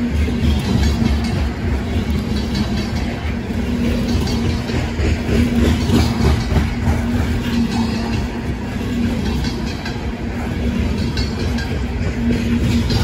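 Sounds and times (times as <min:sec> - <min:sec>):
freight train rumbling: 0:00.0 - 0:13.0
steel wheels clattering on rails: 0:00.0 - 0:13.0.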